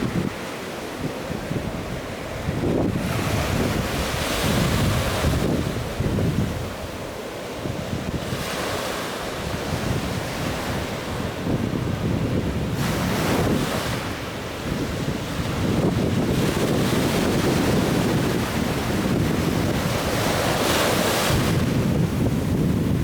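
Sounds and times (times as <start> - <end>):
surf washing: 0.0 - 23.0
wind rumbling on microphone: 0.0 - 23.0.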